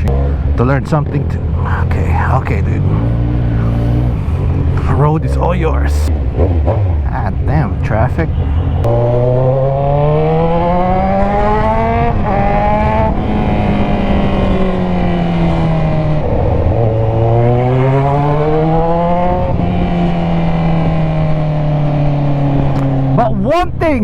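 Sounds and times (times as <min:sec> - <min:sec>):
motorcycle engine revving through gears: 0:00.0 - 0:23.2.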